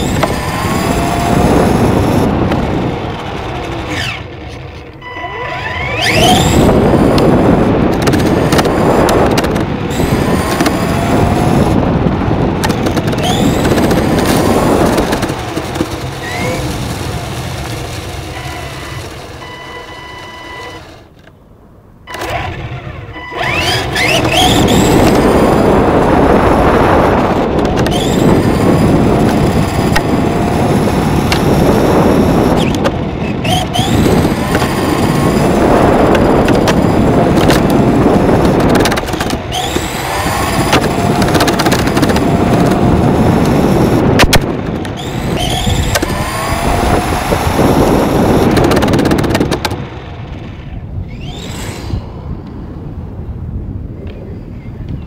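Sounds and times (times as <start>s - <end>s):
electric motor and gear whine: 0.0s - 55.0s
rc car tyres rumbling: 0.0s - 55.0s.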